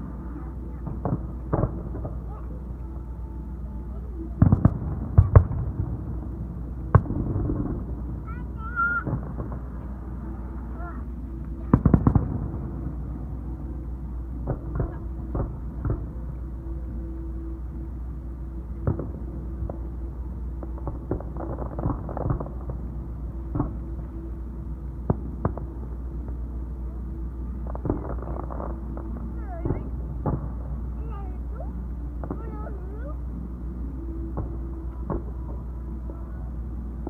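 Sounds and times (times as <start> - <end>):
fireworks bangs and crackles: 0.0 - 2.8, 3.6 - 16.7, 18.7 - 24.3, 25.0 - 26.5, 27.5 - 33.2, 34.1 - 37.0.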